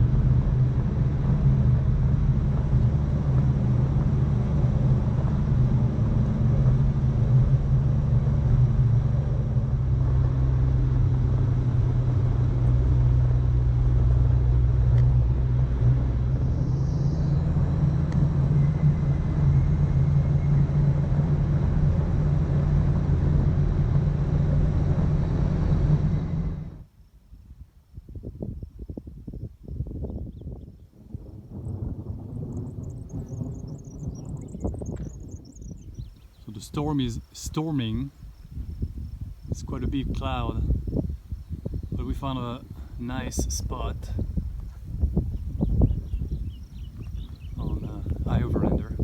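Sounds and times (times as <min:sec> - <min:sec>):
road noise: 0:00.0 - 0:26.9, 0:35.8 - 0:49.0
vehicle engine running: 0:00.0 - 0:26.9, 0:34.8 - 0:49.0.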